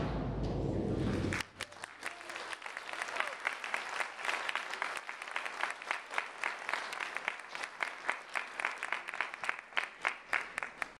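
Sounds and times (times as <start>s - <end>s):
audience applauding: 1.0s - 10.9s.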